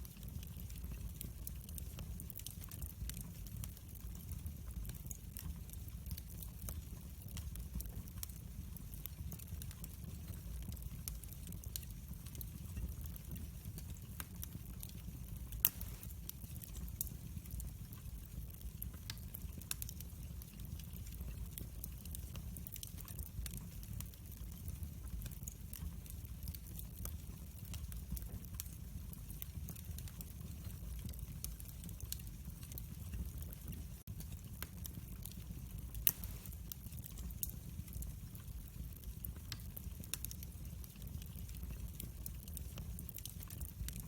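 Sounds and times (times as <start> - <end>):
fire crackling in fireplace: 0.0 - 44.0.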